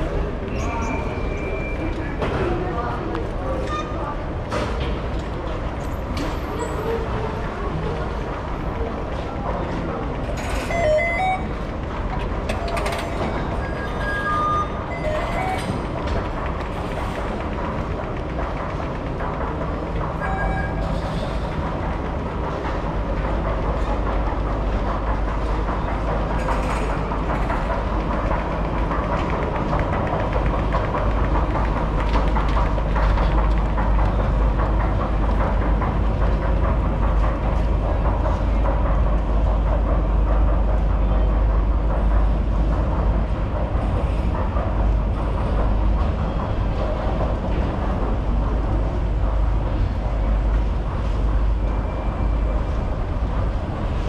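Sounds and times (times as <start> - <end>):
train rumble with faint whine: 0.0 - 54.0.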